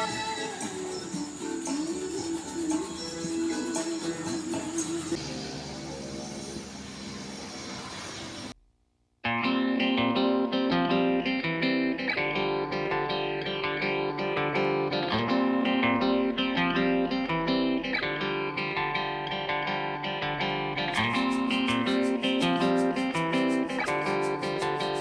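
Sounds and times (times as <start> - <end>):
guitar instrumental music: 0.0 - 6.7, 9.2 - 25.0.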